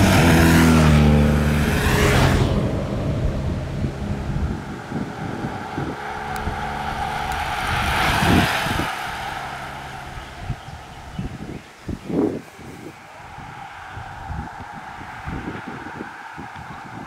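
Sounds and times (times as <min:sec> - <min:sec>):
bicycle tyres and wind whoosh: 0:00.0 - 0:17.0
motor vehicle engine humming: 0:00.0 - 0:17.0.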